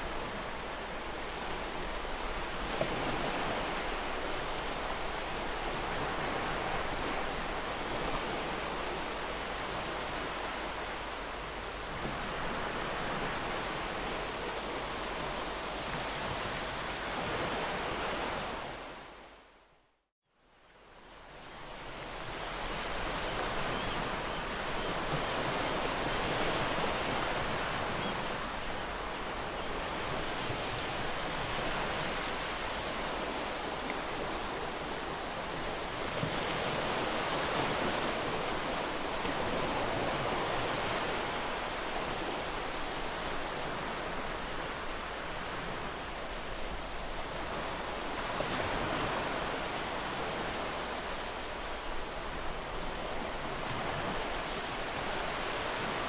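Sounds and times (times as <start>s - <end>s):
ocean waves breaking on shore: 0.0s - 19.6s, 20.6s - 56.0s.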